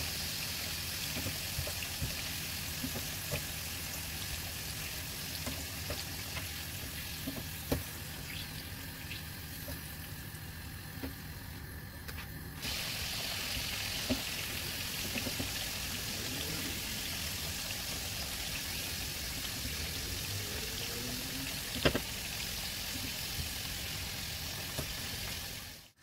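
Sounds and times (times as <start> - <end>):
oil sizzling in a pan: 0.0 - 11.8, 12.6 - 26.0.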